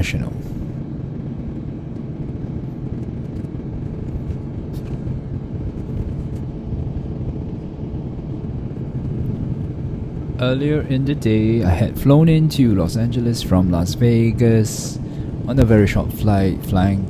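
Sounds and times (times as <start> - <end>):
airliner cabin low rumble: 0.0 - 17.0.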